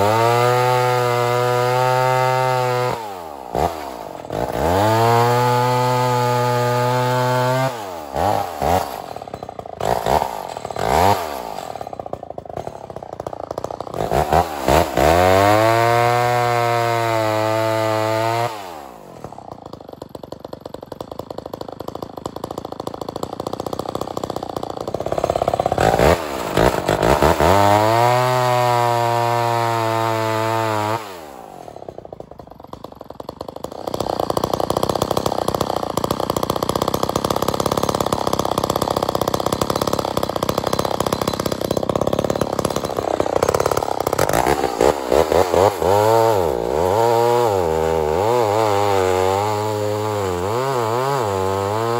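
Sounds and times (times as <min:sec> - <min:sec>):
chainsaw engine revving and cutting: 0:00.0 - 0:51.9.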